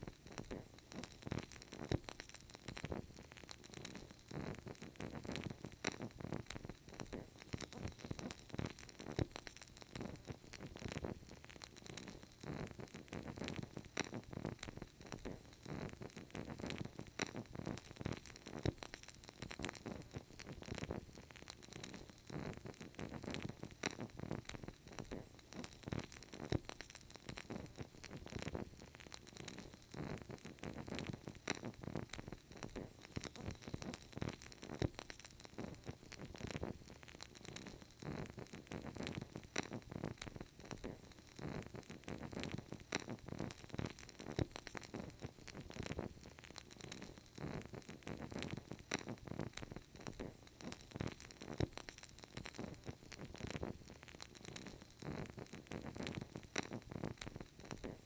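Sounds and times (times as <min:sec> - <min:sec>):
candle flame crackling: 0:00.0 - 0:58.0.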